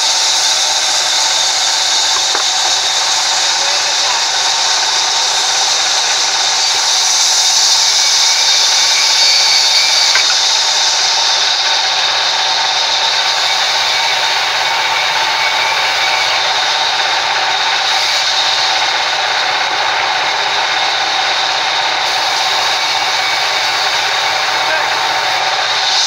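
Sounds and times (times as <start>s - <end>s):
band saw sawing wood: 0.0s - 26.0s.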